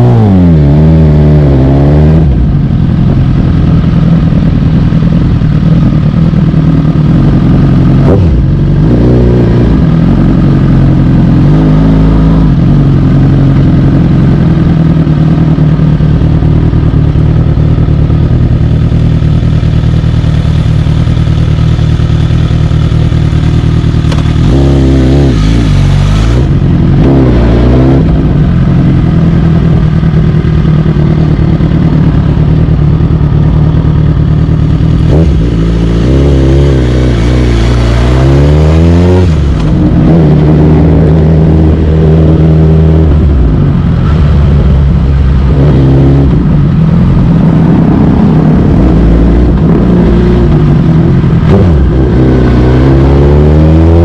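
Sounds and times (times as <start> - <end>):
motorcycle engine at low revs: 0.0 - 54.0.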